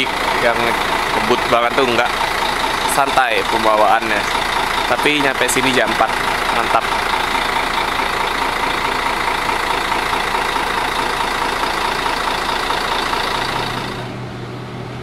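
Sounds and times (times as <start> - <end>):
bus engine idling with high whine: 0.0 - 15.0.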